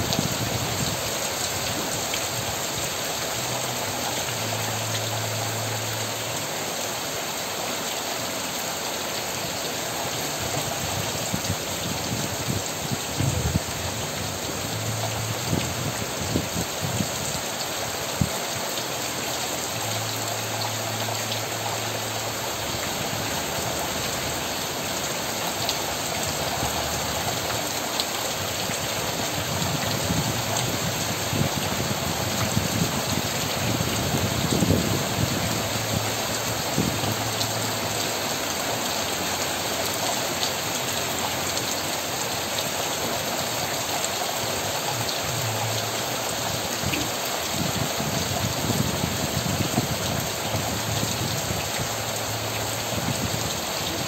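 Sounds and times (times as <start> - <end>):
heavy rain pouring: 0.0 - 54.0
raindrops hitting surfaces: 0.0 - 54.0.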